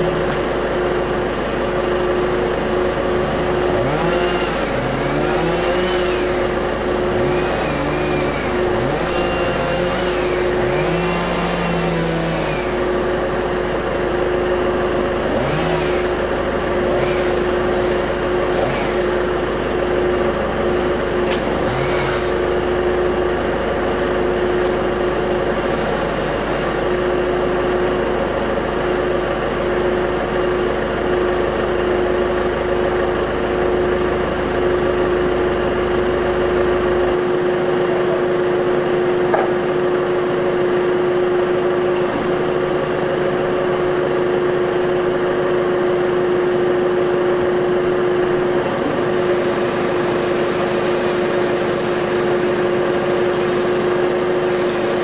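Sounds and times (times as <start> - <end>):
machine engine whining steadily: 0.0 - 55.0.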